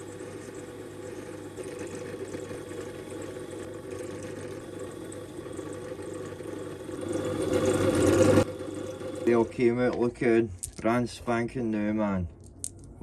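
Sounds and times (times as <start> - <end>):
wire wheel motor hum: 0.0 - 11.5.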